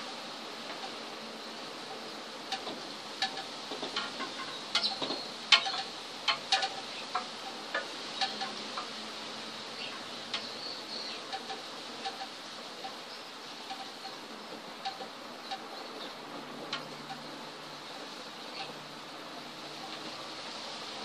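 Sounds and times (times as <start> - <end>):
steady hiss: 0.0 - 21.0
wood-burning tip crackling: 0.0 - 21.0.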